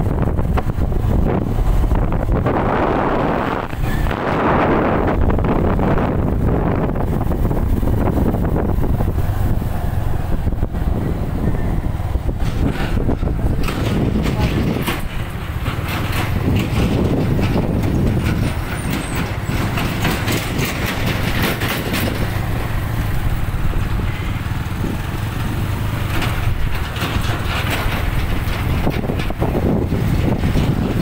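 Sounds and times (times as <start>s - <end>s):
road and wind noise: 0.0s - 31.0s
vehicle engine hum: 0.0s - 31.0s.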